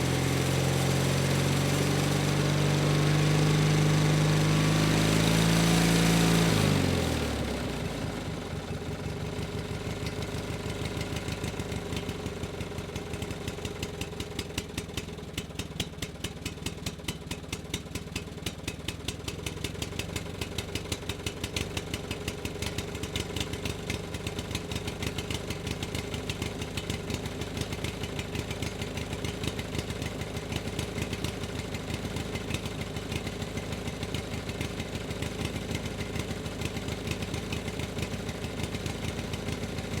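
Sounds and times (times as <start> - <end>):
engine revving down to idle: 0.0 - 14.5, 21.5 - 40.0.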